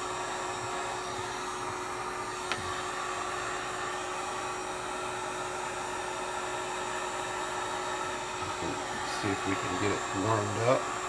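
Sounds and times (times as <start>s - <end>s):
heat gun blowing air: 0.0s - 11.0s.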